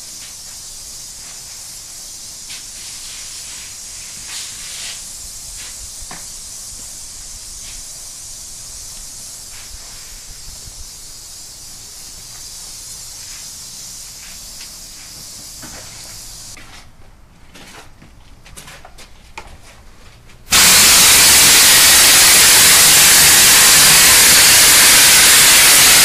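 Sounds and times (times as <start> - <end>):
stucco spray gun hissing: 0.0 - 16.6, 20.5 - 26.0.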